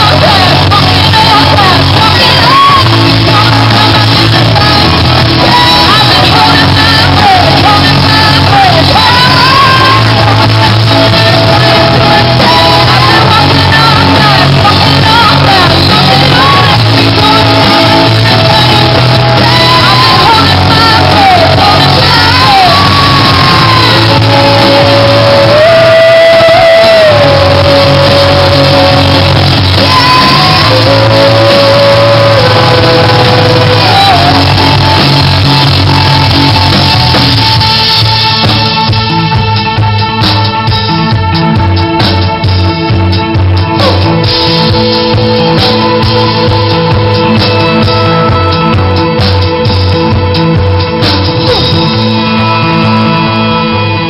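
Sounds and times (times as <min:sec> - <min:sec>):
drums: 0:00.0 - 0:54.0
electric guitars: 0:00.0 - 0:54.0
keyboard: 0:00.0 - 0:54.0
woman singing lead: 0:00.0 - 0:54.0.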